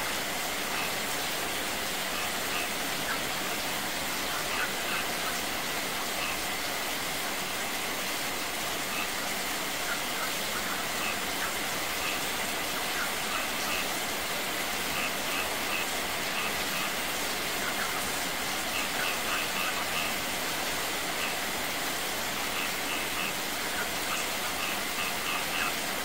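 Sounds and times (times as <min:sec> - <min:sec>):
steady rain: 0:00.0 - 0:26.0
water cascading over rocks: 0:00.0 - 0:26.0.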